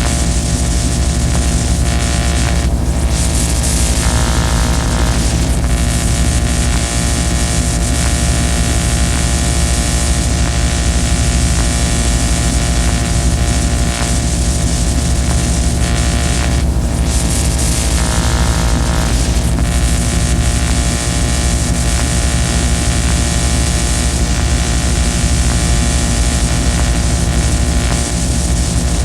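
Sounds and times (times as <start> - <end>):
droning hums: 0.0 - 29.0.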